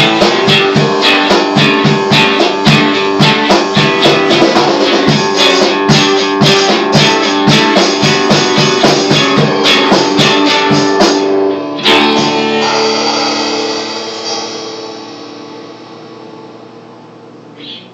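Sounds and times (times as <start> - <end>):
acoustic guitar strumming: 0.0 - 17.9.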